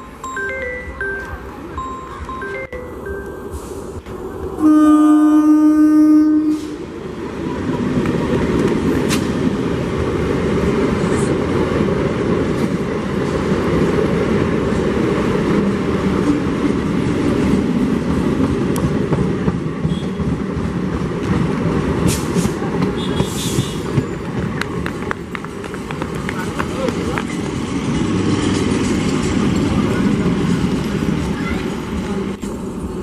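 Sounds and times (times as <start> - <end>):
train wheels rumbling on rails: 0.9 - 33.0.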